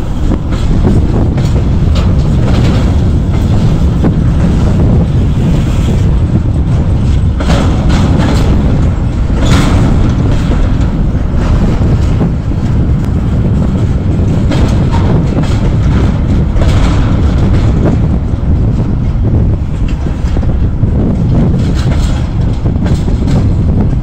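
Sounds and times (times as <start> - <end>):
freight train rumbling past: 0.0 - 24.0
train wheel clanks and clatter: 0.0 - 24.0.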